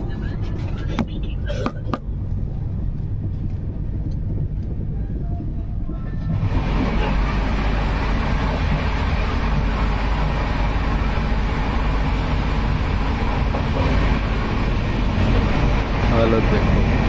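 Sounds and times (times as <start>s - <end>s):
train carriage rumble and rattle: 0.0s - 17.0s.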